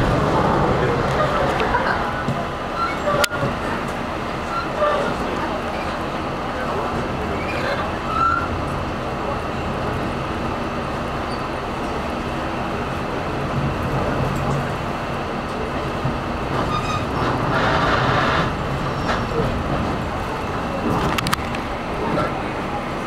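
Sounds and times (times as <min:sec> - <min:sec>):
railcar engine and wheels rumbling: 0:00.0 - 0:23.0.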